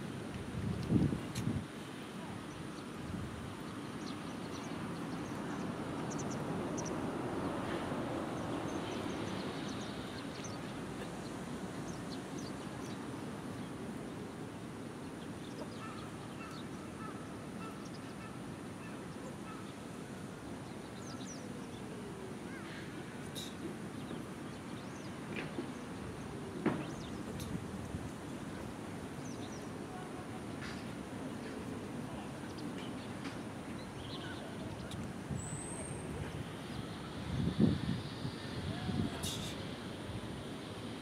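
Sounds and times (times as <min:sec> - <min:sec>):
distant traffic hum: 0:00.0 - 0:41.0
wind: 0:00.0 - 0:41.0.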